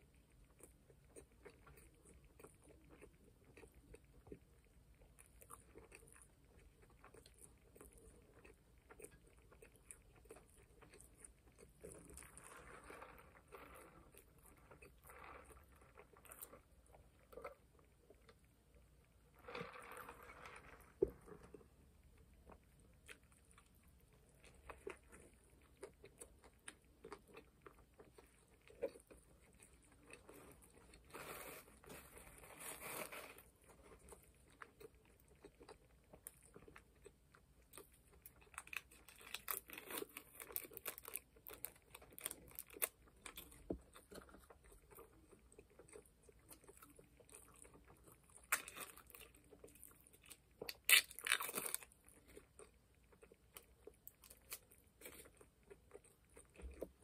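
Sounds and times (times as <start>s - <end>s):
chewing food: 0.0s - 57.0s.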